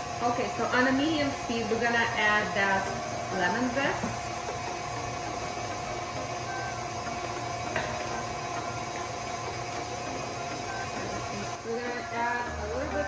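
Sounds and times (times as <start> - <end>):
electric mixer running: 0.0 - 13.0.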